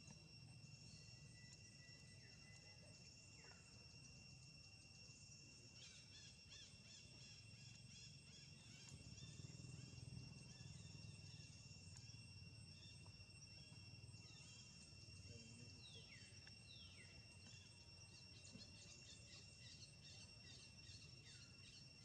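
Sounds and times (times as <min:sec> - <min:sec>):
insect chorus drone: 0:00.0 - 0:22.0.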